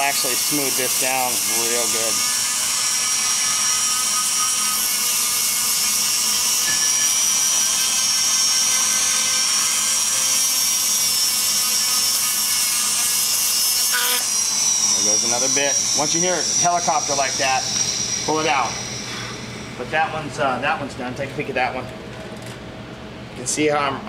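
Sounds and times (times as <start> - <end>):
rotary grinder whining: 0.0 - 20.7.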